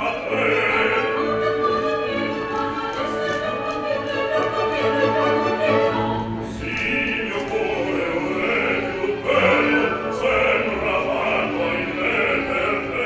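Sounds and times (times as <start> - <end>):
operatic baritone singing: 0.0 - 3.8, 4.9 - 13.0
classical orchestra: 0.0 - 13.0.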